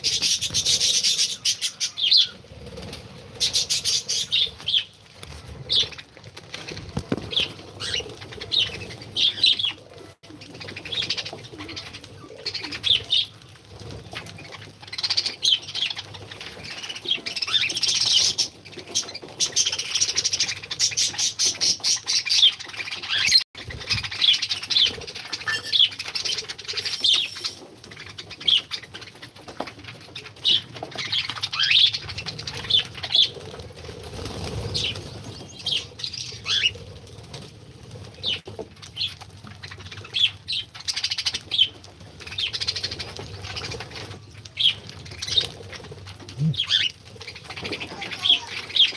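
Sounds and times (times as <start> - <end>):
small birds chirping and calling: 0.0 - 37.4, 38.0 - 48.9.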